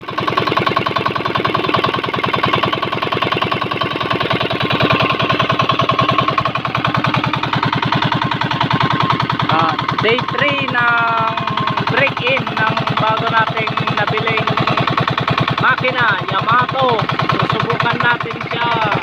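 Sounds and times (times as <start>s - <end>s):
diesel engine chugging: 0.0s - 19.0s.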